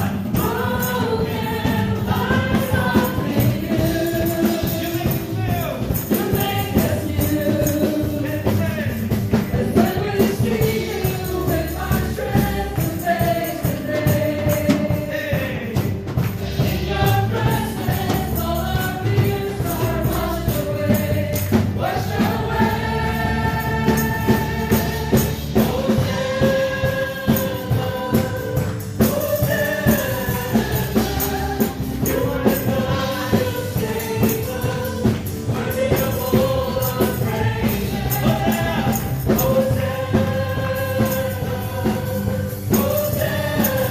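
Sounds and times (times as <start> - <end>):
choir singing: 0.0 - 8.9, 9.5 - 15.9, 16.5 - 43.9
band with steady beat: 0.0 - 43.9
tambourine: 0.0 - 43.9.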